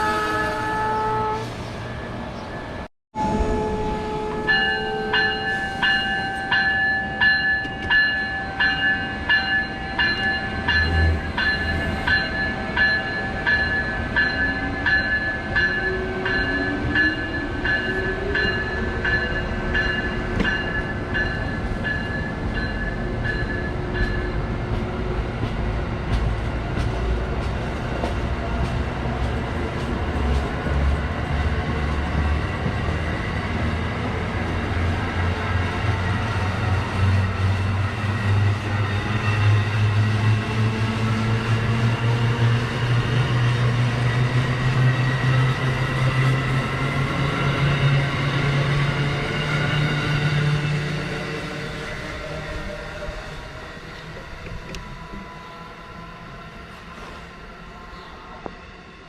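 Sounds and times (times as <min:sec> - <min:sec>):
train running on track: 0:00.0 - 0:59.0.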